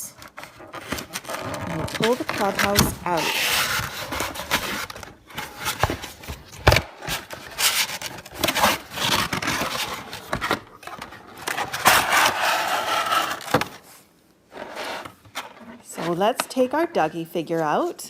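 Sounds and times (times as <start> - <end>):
cardboard rubbing and scraping: 0.3 - 16.2.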